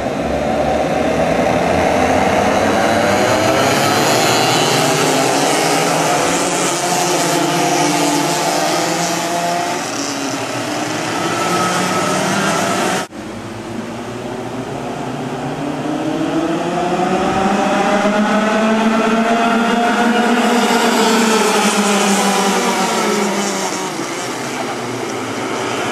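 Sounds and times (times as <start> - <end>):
kart engines at high revs: 0.0 - 25.9.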